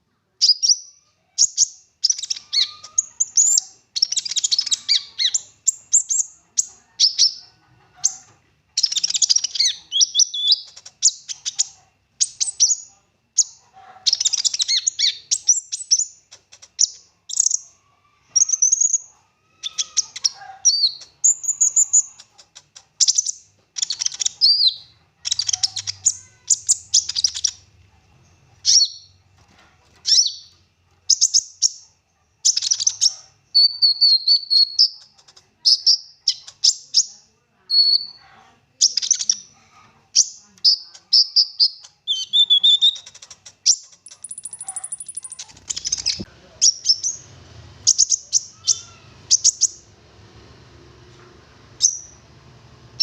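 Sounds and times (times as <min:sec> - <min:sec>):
songbird chirps and trills: 0:00.2 - 0:50.0, 0:51.7 - 0:52.3.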